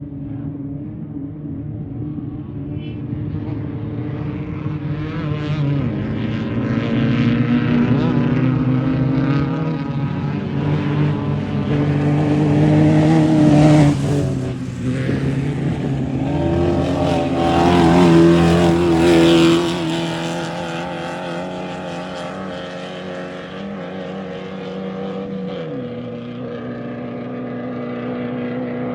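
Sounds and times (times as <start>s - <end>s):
race vehicle engines passing: 0.0s - 28.9s.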